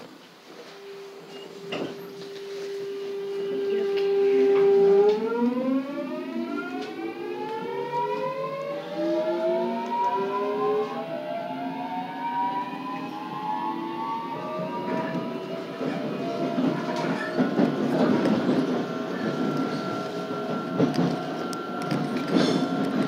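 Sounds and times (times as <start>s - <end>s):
train traction motors whining: 0.5s - 23.0s.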